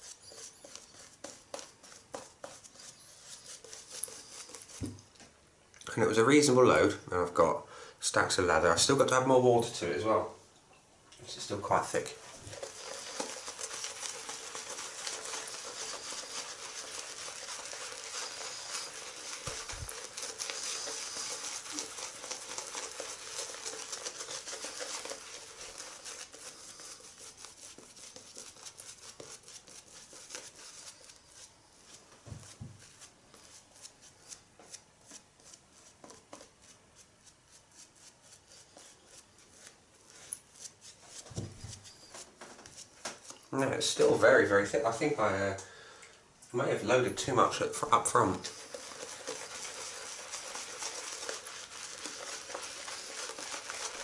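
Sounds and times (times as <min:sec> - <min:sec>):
shaving brush swishing in lather: 0:00.0 - 0:05.0, 0:11.3 - 0:45.4, 0:46.6 - 0:54.0.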